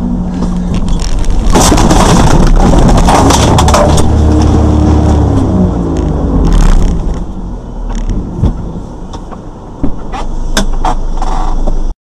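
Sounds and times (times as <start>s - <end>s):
car engine and road rumble: 0.0s - 11.9s.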